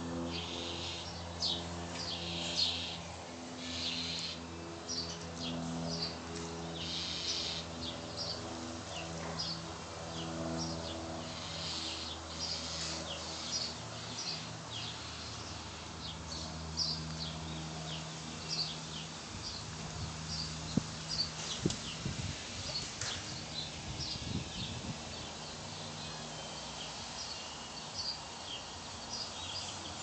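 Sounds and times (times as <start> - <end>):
low droning hum: 0.0 - 27.3
small birds chirping: 0.1 - 30.0.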